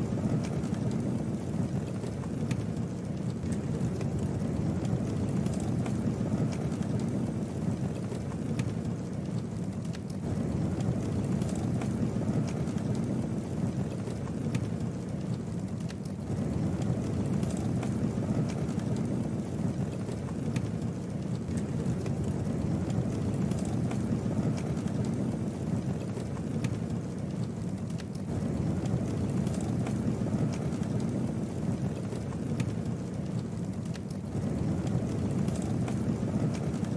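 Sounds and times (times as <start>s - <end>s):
campfire flame rushing: 0.0s - 36.9s
wood crackling and popping: 0.0s - 36.9s.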